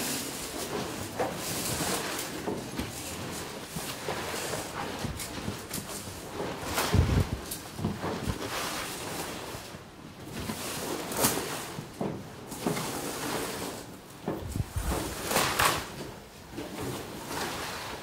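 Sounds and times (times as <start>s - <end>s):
broom sweeping dirt floor: 0.0s - 18.0s.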